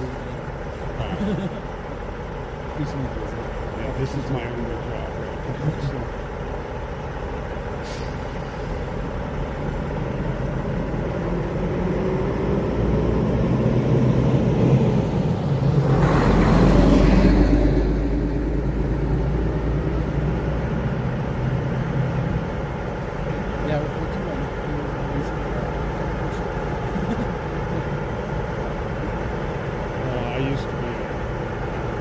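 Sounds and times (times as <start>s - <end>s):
large vehicle engine running: 0.0s - 32.0s.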